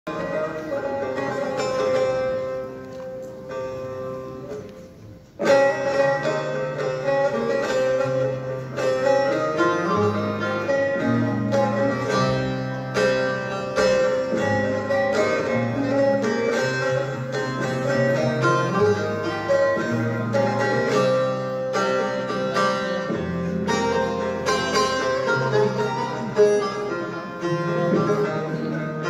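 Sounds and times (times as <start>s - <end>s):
folk ensemble of lutes and guitar: 0.0s - 29.0s.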